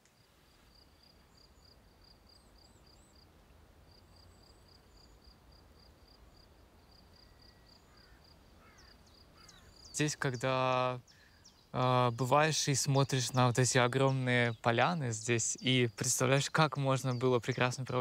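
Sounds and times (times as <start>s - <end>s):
faint bird chirps: 0.0s - 3.3s, 3.9s - 18.0s
cricket chirping: 0.0s - 18.0s.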